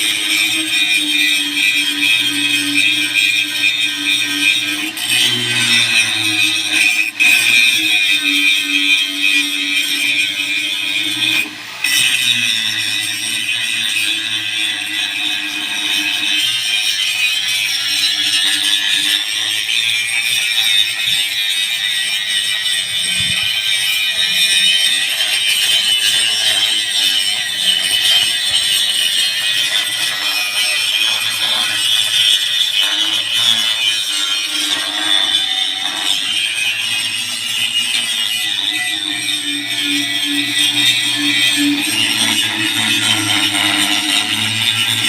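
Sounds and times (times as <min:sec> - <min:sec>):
angle grinder grinding metal: 0:00.0 - 0:45.0.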